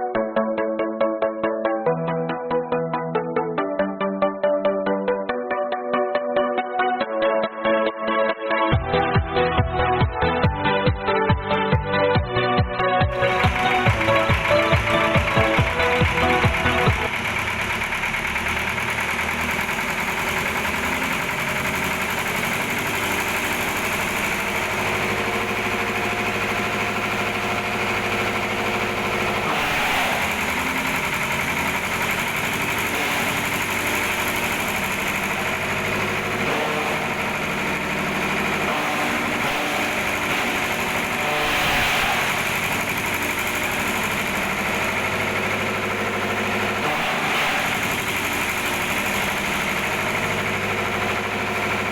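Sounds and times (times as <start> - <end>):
diesel shredder running: 8.6 - 51.9.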